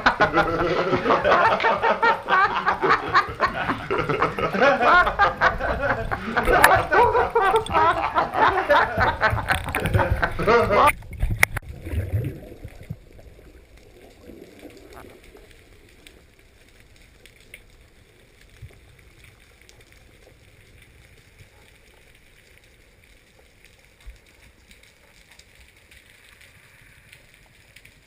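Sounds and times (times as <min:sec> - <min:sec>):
underwater hiss and low rumble: 0:00.0 - 0:28.0
sharp clicks and crackles: 0:05.0 - 0:28.0.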